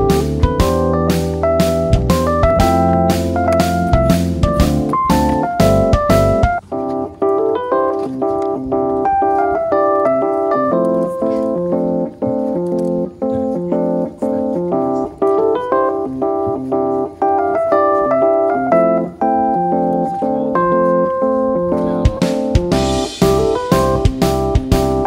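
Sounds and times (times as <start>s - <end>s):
keyboard tune with regular beat: 0.0s - 25.0s.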